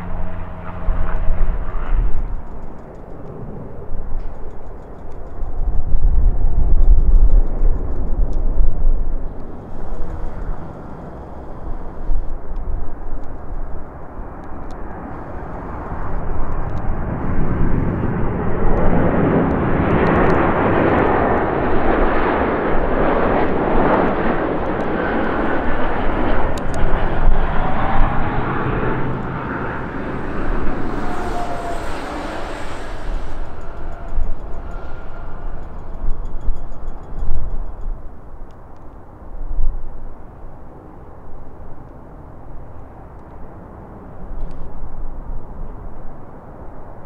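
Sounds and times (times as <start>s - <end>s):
faint jet engine whine: 0.0s - 47.0s
jet airliner passing overhead: 0.0s - 47.0s.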